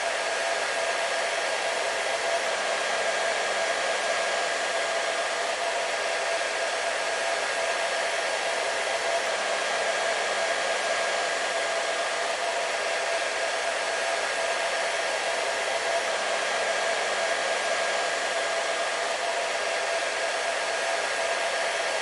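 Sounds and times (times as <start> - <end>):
hair dryer blowing: 0.0 - 22.0.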